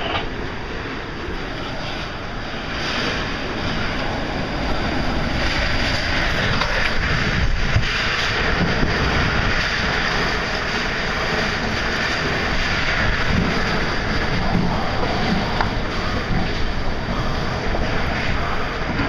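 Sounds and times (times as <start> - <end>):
wind battering microphone: 0.0 - 19.0.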